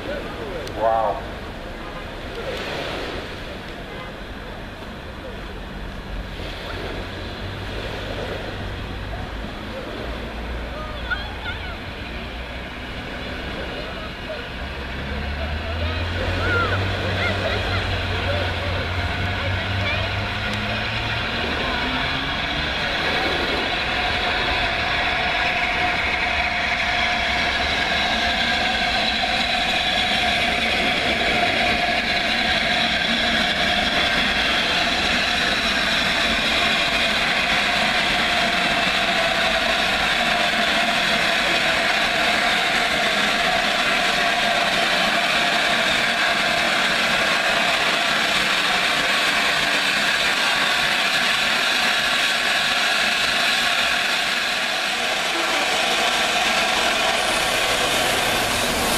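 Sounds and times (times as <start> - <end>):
steam train running through station: 0.0 - 58.9.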